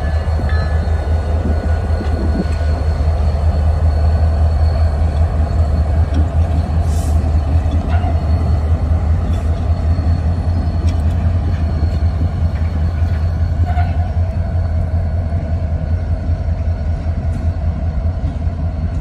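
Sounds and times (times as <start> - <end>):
diesel locomotive engine rumble: 0.0 - 19.0.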